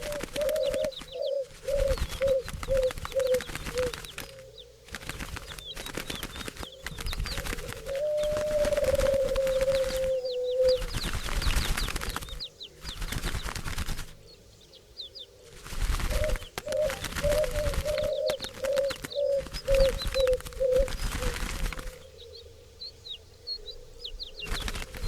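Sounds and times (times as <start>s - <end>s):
doves wings flapping: 0.0s - 14.3s, 15.4s - 22.2s, 24.3s - 25.0s.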